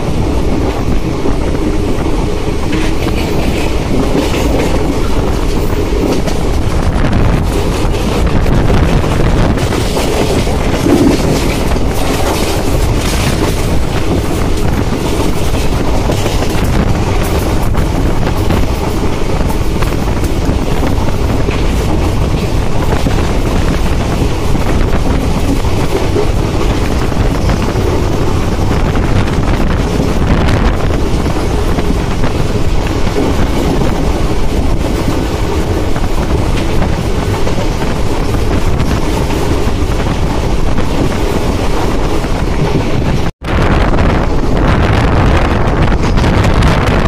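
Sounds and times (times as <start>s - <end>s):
train wheels rumbling on rail: 0.0s - 47.0s
wind buffeting microphone: 0.0s - 47.0s.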